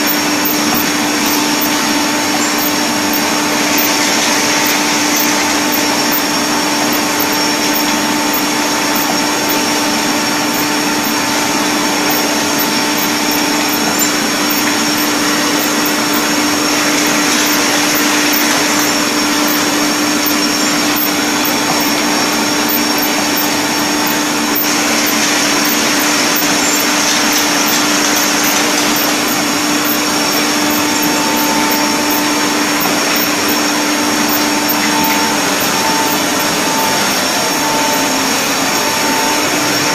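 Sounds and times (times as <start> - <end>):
jar filling machine whirring: 0.0 - 39.9.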